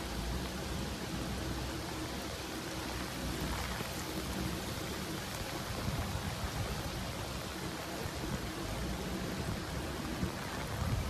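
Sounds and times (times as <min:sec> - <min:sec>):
heavy rain on water: 0:00.0 - 0:11.0.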